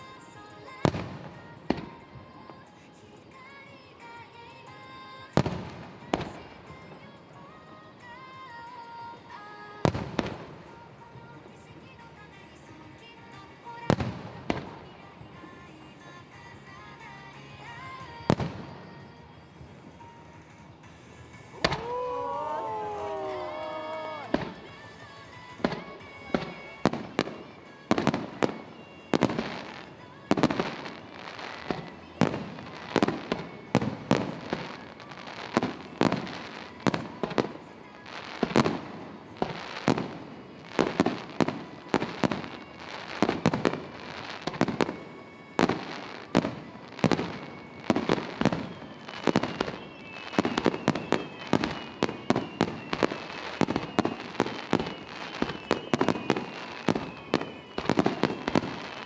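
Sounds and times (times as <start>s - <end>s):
falling firework whistles: 0.0s - 59.0s.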